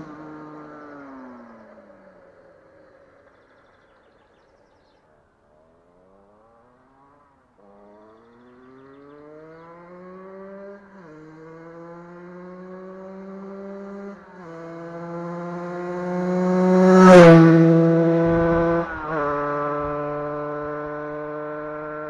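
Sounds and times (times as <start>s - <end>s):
two-stroke engine accelerating: 0.0s - 4.8s, 5.5s - 22.0s.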